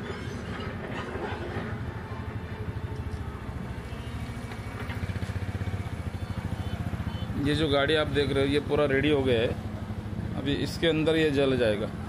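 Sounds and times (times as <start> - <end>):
engine idling: 2.0 - 12.0.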